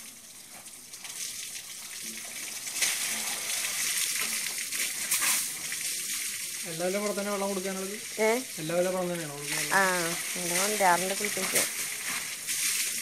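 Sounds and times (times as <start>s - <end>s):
water spraying and pattering: 0.0s - 13.0s.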